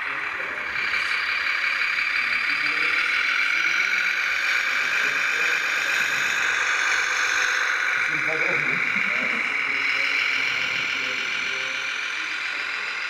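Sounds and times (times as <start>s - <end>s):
toy truck motor whine: 0.0s - 13.0s.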